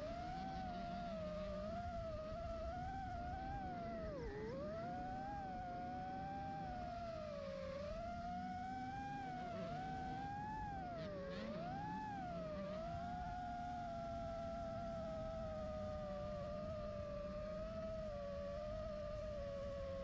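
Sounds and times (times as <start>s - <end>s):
low engine-like hum: 0.0s - 20.0s
quadcopter motors whining: 0.0s - 20.0s.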